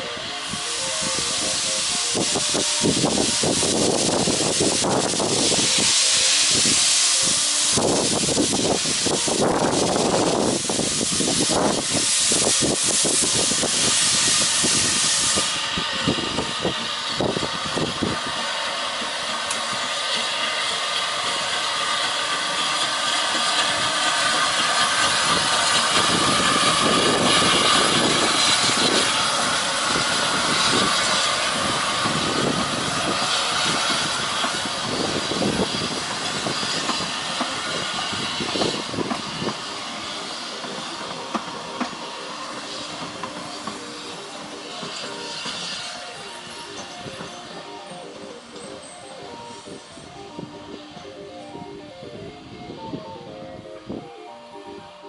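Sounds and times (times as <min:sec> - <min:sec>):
steam locomotive hissing steam: 0:00.0 - 0:55.0.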